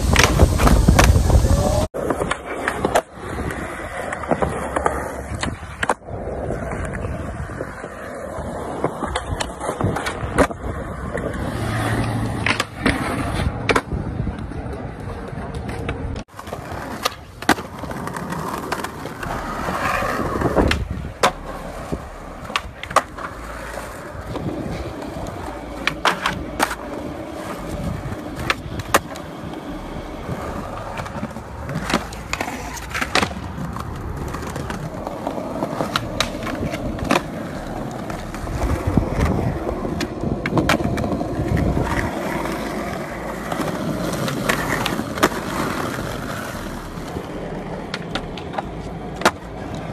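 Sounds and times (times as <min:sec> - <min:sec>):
skateboard pops and clacks: 0:00.0 - 0:07.1, 0:08.7 - 0:49.9
skateboard wheels rolling on concrete: 0:00.0 - 0:49.9.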